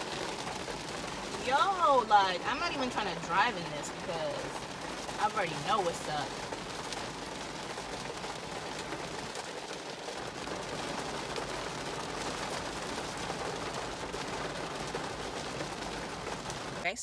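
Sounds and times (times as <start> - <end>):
heavy rain on hard surface: 0.0 - 17.0.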